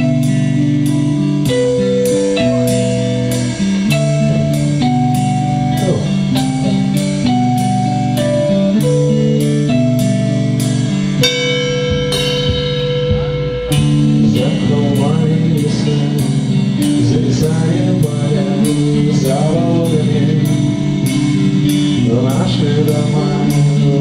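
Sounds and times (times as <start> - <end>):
drum kit beat: 0.0 - 24.0
guitar chords: 0.0 - 24.0
person singing: 1.5 - 9.6, 12.1 - 24.0.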